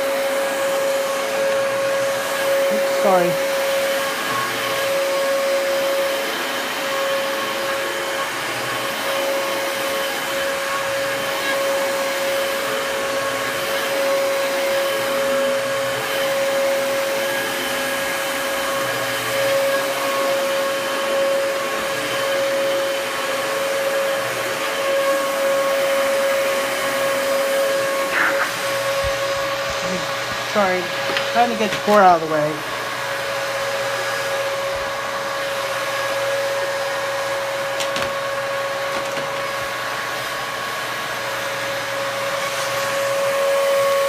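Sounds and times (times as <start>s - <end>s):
vacuum cleaner running on carpet: 0.0s - 44.0s.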